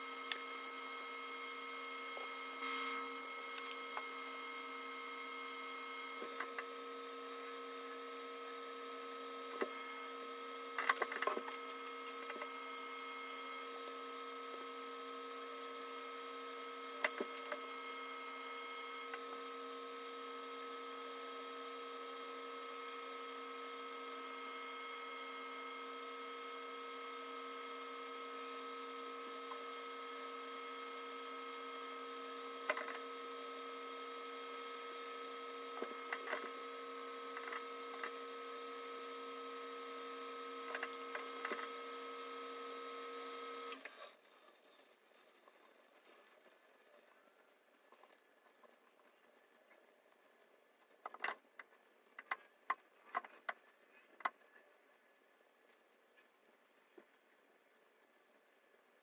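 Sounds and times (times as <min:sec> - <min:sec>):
steady hum of held tones: 0:00.0 - 0:48.4.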